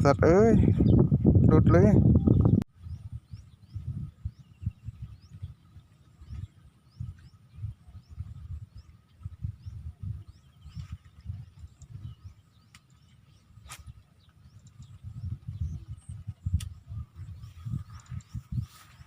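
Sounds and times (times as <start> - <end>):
faint rising bird chirps: 2.0 - 19.0.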